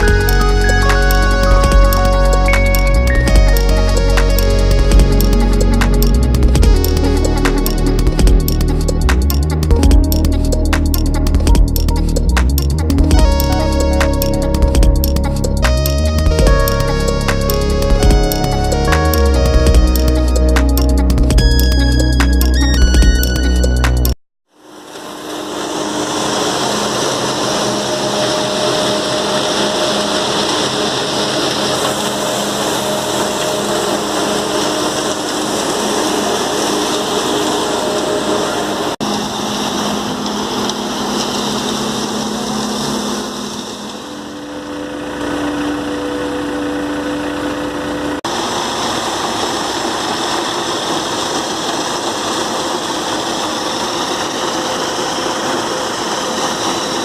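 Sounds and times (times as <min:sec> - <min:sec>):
concrete mixer engine running: 0:00.0 - 0:24.1, 0:24.7 - 0:57.0.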